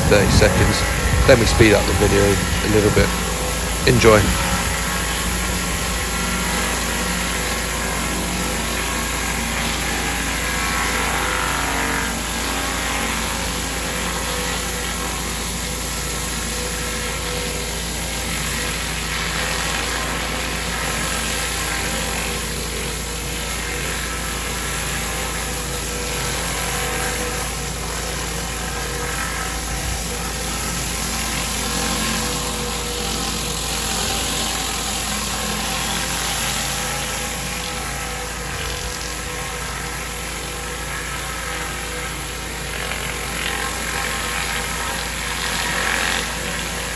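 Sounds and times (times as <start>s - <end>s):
water jet spraying: 0.0s - 10.4s, 13.4s - 42.7s
pressure washer engine running: 0.0s - 46.9s.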